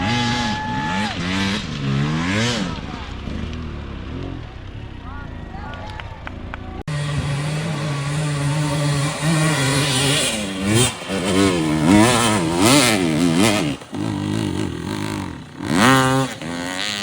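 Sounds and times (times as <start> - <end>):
dirt bike engine revving: 0.0 - 5.6, 6.3 - 17.0.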